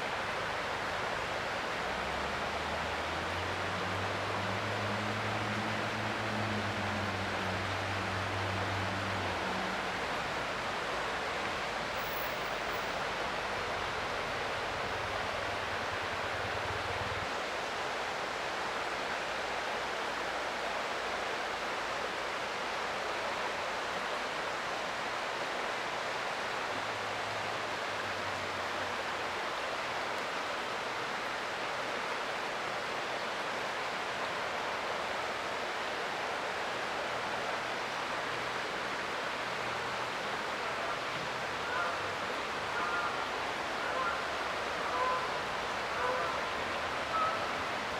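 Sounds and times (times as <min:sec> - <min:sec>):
creek water flowing: 0:00.0 - 0:47.9.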